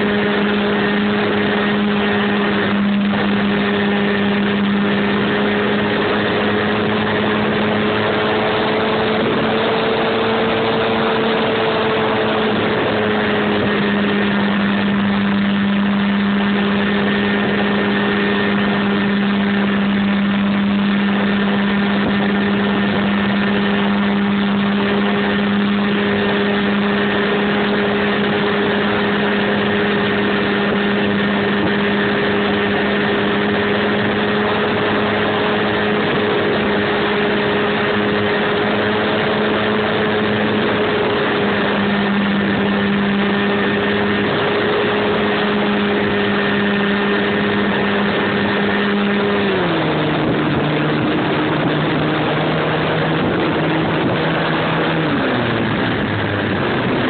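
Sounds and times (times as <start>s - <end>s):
model airplane motor and propeller: 0.0s - 57.0s.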